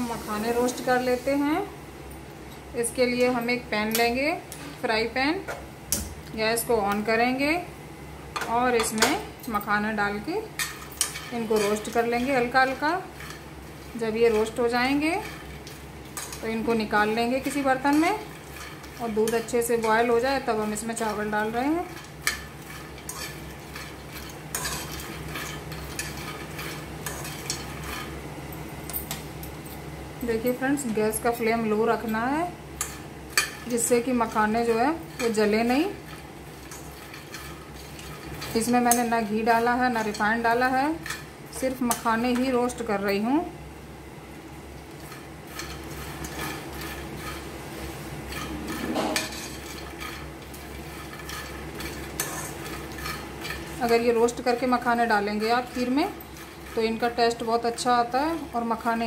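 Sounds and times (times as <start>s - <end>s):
steady low hum: 0.0s - 59.0s
spoon scraping nuts in pan: 8.8s - 43.2s, 44.7s - 59.0s.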